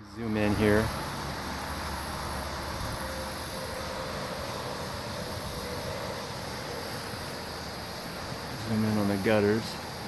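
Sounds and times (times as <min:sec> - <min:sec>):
background hum and hiss: 0:00.0 - 0:10.0.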